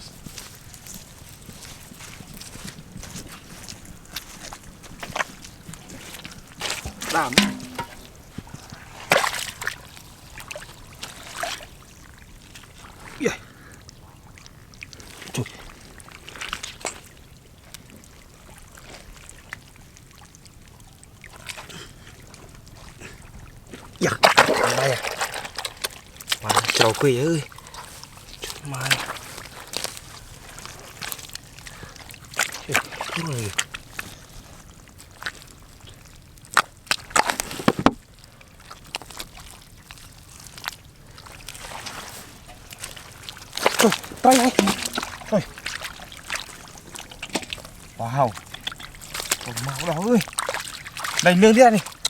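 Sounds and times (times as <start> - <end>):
faint trickling water: 0.0 - 37.4, 38.0 - 52.0
small water splashes: 0.0 - 52.0.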